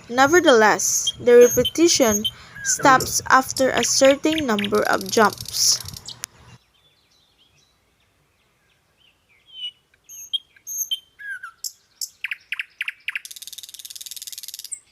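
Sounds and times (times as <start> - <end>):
birds chirping and whistling: 0.2 - 7.7, 9.4 - 14.9.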